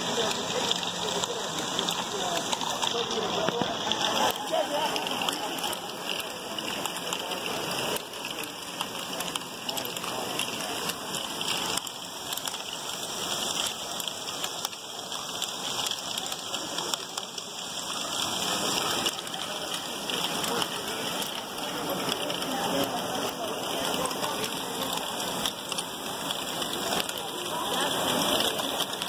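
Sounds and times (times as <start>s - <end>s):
plastic balls and mechanisms clattering: 0.0s - 29.0s.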